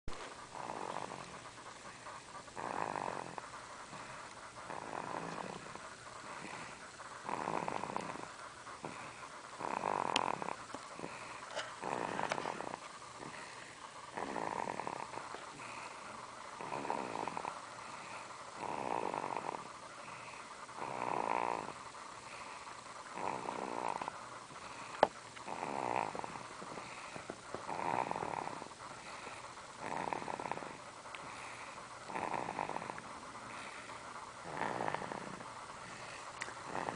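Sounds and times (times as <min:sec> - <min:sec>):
rhythmic snoring: 0:00.1 - 0:36.9.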